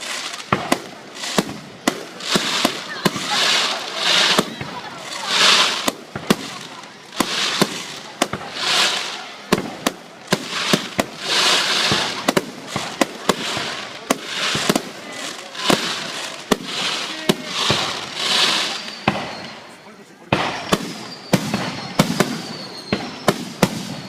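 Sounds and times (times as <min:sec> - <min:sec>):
fireworks shells banging: 0:00.0 - 0:19.7, 0:20.3 - 0:24.0
fireworks hissing: 0:00.0 - 0:24.0.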